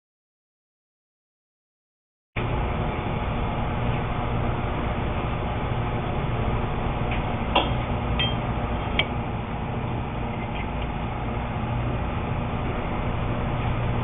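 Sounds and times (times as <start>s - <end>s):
machinery hum: 2.4s - 14.0s.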